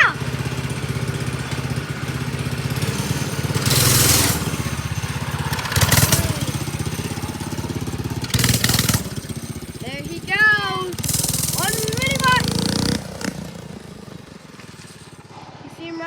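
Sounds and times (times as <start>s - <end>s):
mini bike engine running: 0.0s - 16.0s.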